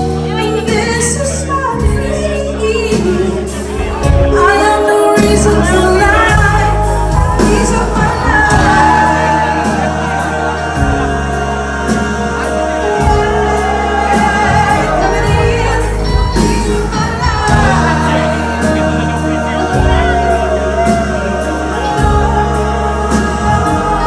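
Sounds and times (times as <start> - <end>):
pop-funk band playing: 0.0 - 24.0
woman singing: 0.0 - 24.0.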